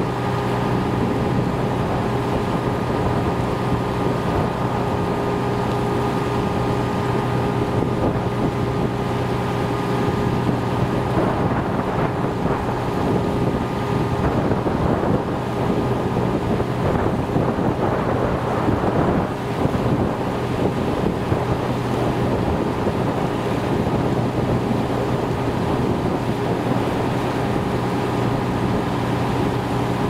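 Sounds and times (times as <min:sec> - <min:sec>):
engine humming: 0:00.0 - 0:30.0
wind noise on microphone: 0:00.0 - 0:30.0.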